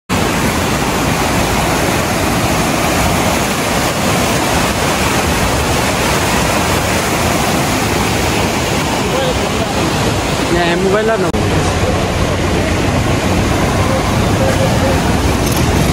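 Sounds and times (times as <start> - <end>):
turbulent river water rushing: 0.1 - 15.9.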